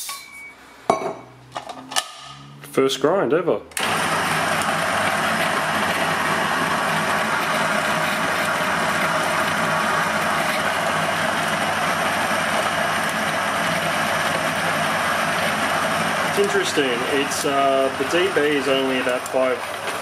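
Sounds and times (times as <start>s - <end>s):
coffee grinder grinding beans: 3.8s - 20.0s.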